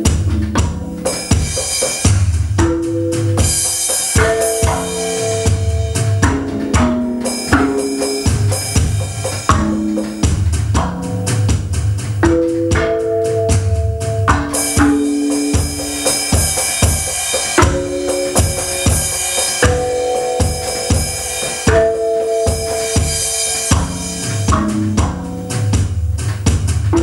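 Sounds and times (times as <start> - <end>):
electronic drum kit rock beat: 0.0 - 27.0
song with held melodic notes: 0.0 - 27.0.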